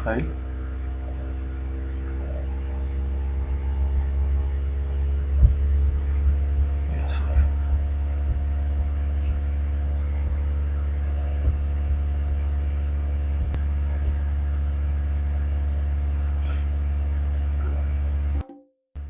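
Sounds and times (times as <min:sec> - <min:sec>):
electrical hum: 0:00.0 - 0:18.5.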